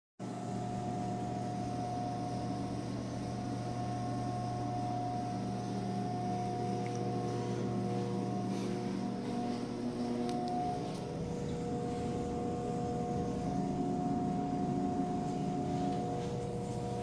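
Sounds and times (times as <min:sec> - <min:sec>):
ventilation fan humming: 0:00.2 - 0:17.0.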